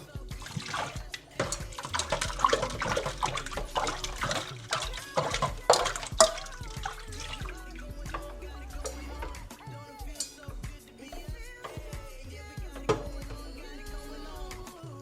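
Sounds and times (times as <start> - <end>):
water running at a sink: 0.0 - 14.8
dishes clinking and knocking: 0.4 - 12.0, 12.6 - 13.5.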